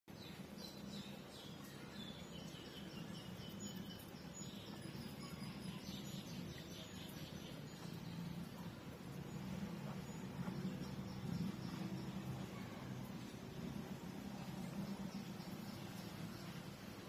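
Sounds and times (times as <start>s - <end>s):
bird chirping: 0.1s - 17.0s
steady low hum: 2.8s - 17.0s.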